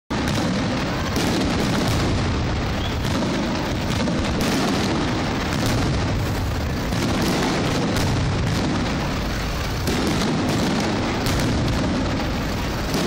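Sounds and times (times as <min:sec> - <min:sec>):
fireworks booming and crackling: 0:00.1 - 0:13.0.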